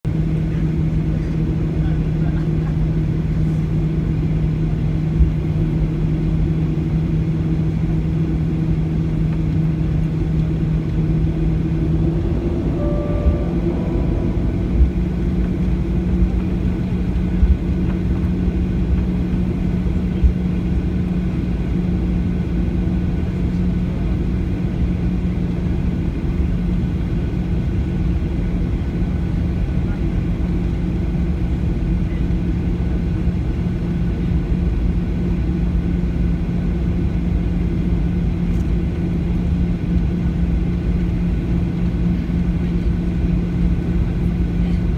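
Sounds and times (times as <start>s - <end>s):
jet engines humming: 0.1s - 38.2s.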